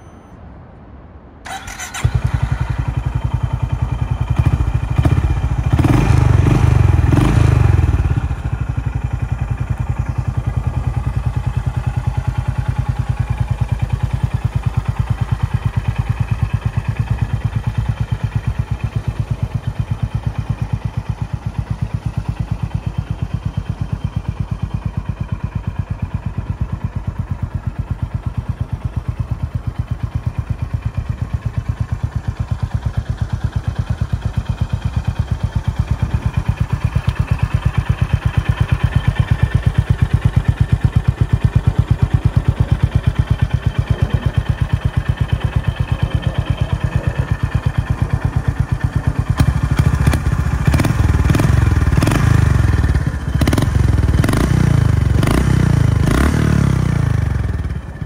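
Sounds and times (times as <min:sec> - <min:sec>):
motorcycle engine revving and idling: 0:01.5 - 0:58.0.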